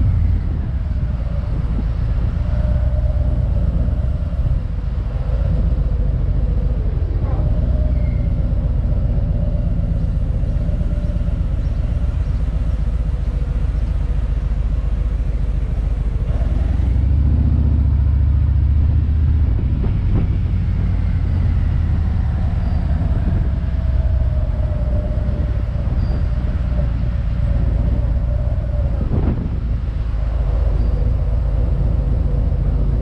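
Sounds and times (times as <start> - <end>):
motorcycle engine rumbling: 0.0 - 33.0.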